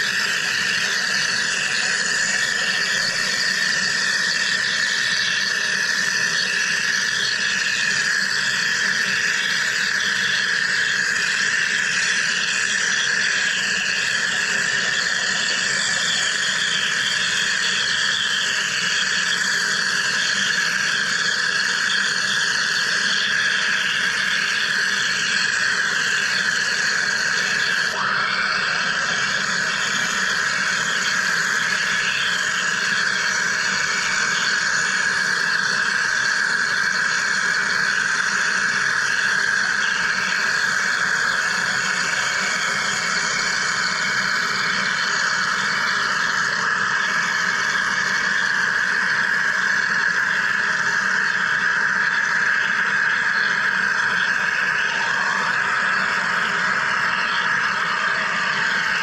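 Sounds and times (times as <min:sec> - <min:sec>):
machine high-pitched whine: 0:00.0 - 0:59.0.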